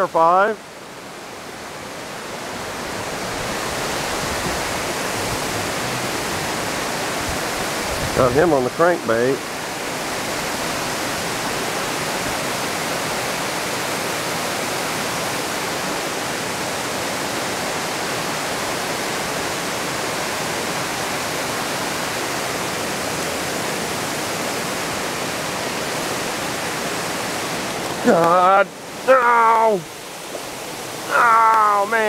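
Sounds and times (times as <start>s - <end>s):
water pouring over dam: 1.2s - 32.0s.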